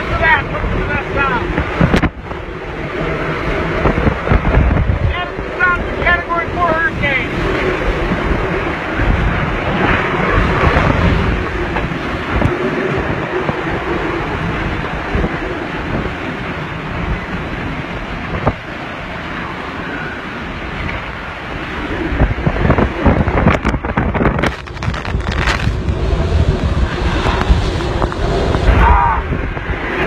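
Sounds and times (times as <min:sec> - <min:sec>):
wind gusts on microphone: 0:00.0 - 0:30.0.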